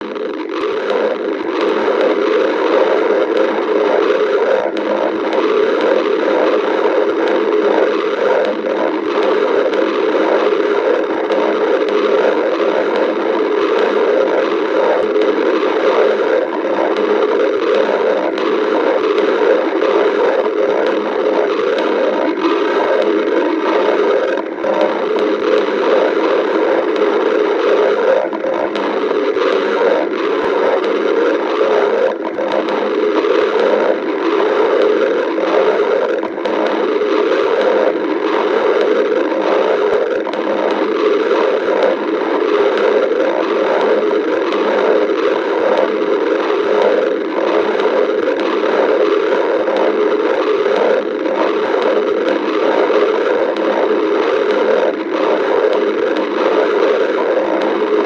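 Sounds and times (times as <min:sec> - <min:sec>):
stomach growling: 0:00.0 - 0:58.0.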